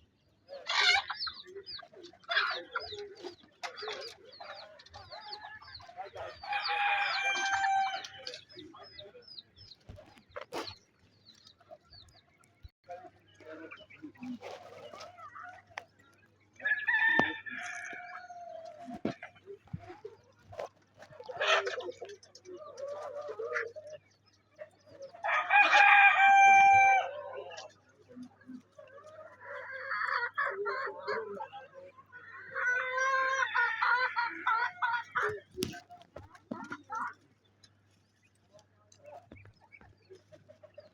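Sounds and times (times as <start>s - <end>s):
chickens clucking and calling: 0.0s - 40.9s.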